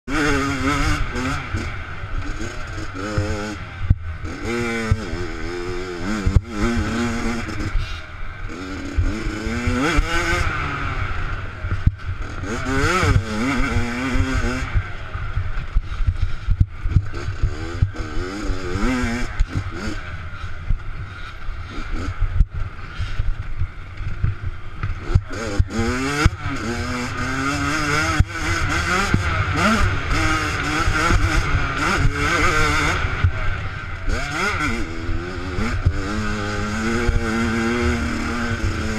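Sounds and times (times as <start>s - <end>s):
minibike engine revving: 0.1s - 38.9s.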